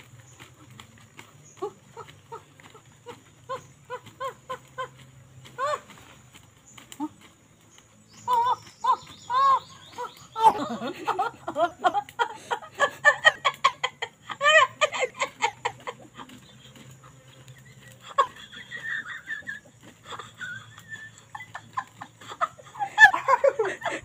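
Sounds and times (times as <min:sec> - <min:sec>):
man and woman laughing: 0:01.6 - 0:07.2, 0:08.3 - 0:24.0.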